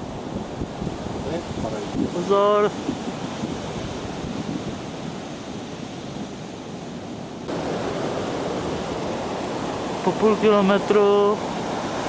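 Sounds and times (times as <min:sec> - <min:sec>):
wind on microphone: 0:00.0 - 0:10.2
ocean surf: 0:00.0 - 0:12.0.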